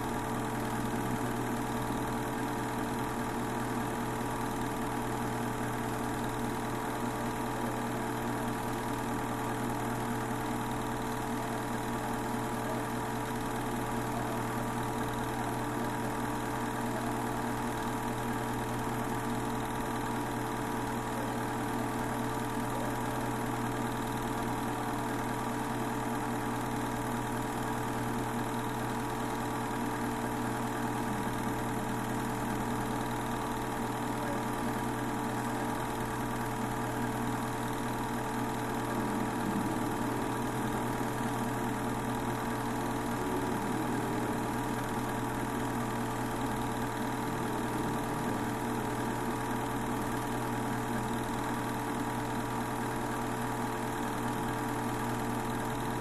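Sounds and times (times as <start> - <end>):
projector motor and fan hum: 0.0 - 56.0.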